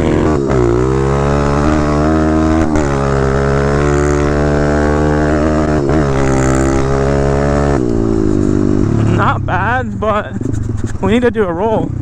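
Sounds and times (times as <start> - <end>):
pit bike engine at full throttle: 0.0 - 12.0.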